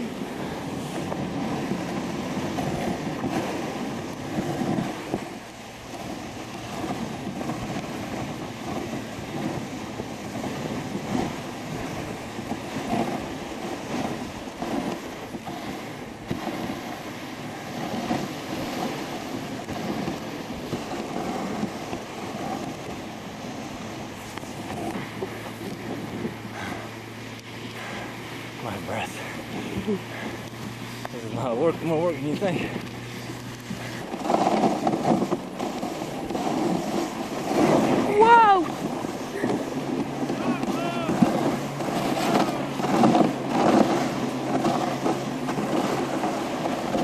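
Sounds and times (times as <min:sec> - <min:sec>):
sled jolts and knocks: 0:00.0 - 0:23.1, 0:24.2 - 0:26.9, 0:27.7 - 0:47.0
sled runners scraping on snow: 0:00.0 - 0:47.0.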